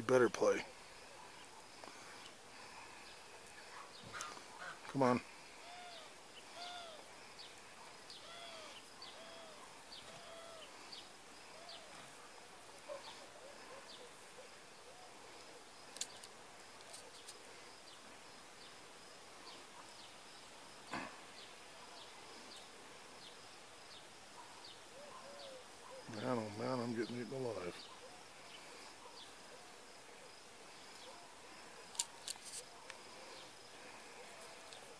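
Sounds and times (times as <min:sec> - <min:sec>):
birds calling: 0:00.0 - 0:18.8, 0:20.9 - 0:34.9.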